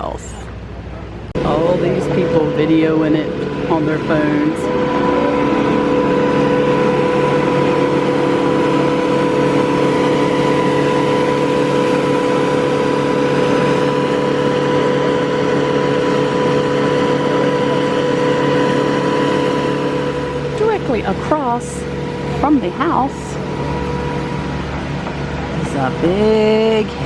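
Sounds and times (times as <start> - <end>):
crane engine humming: 0.0 - 27.0.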